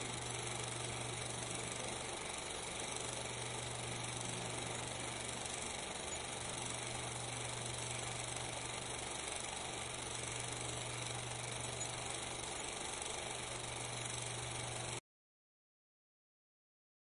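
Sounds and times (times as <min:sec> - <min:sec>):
constant low hum: 0:00.0 - 0:15.0
film soundtrack hiss: 0:00.0 - 0:15.0.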